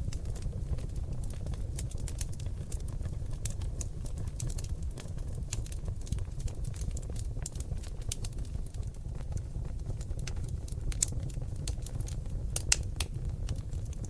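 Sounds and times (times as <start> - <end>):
logs crackling in a fireplace: 0.0 - 14.0.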